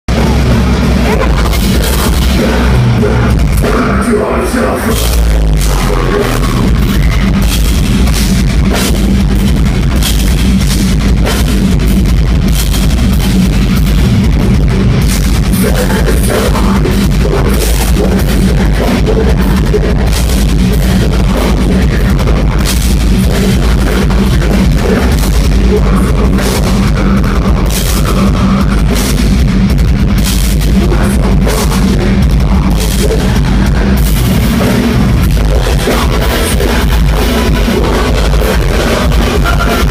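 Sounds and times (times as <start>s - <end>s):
distorted guitars: 0.0s - 39.9s
heavy bass: 0.0s - 39.9s
pounding drums: 0.1s - 39.9s.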